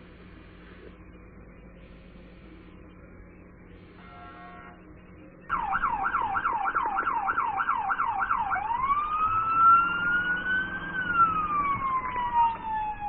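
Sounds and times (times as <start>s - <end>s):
police siren: 1.8s - 13.0s.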